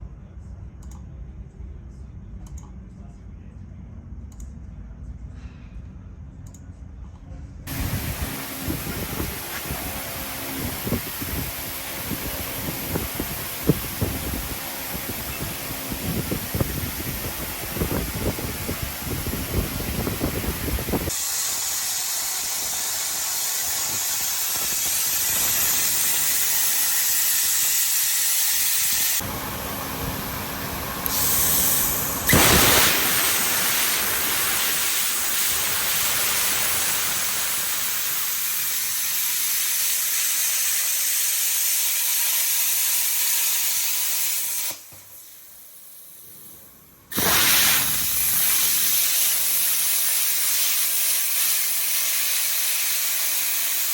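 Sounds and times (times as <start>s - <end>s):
plasma cutter hissing: 7.7s - 29.3s, 31.0s - 53.9s.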